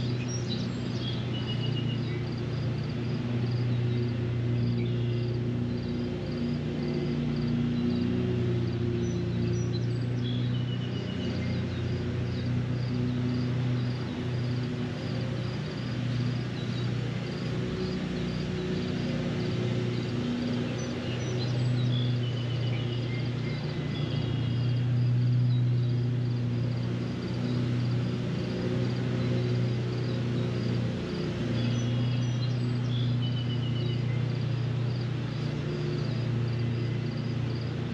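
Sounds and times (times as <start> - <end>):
low even drone: 0.0 - 37.9.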